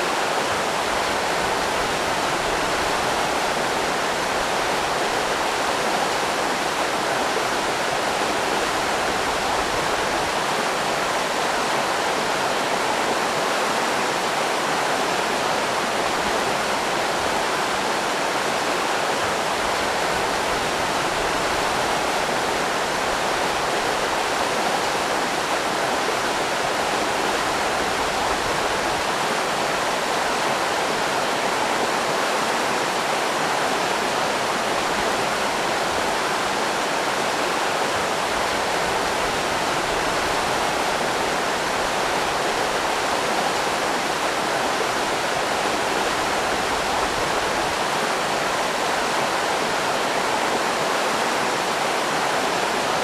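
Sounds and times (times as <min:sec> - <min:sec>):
river rapids rushing: 0:00.0 - 0:53.0.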